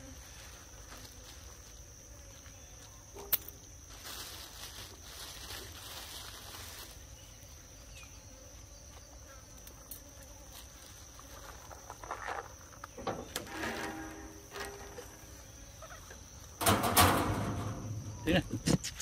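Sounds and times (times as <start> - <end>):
insects buzzing: 0.0 - 19.0
rustles: 0.0 - 19.0.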